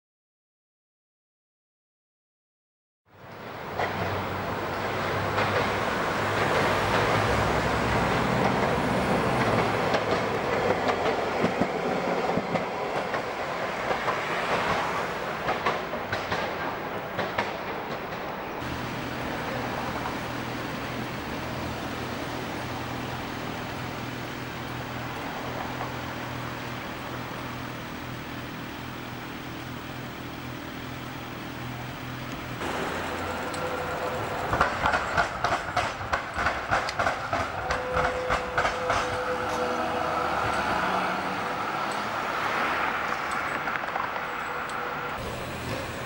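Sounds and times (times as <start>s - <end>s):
tram humming on rails: 3.1s - 46.0s
tram wheels clacking over rails: 3.2s - 46.0s.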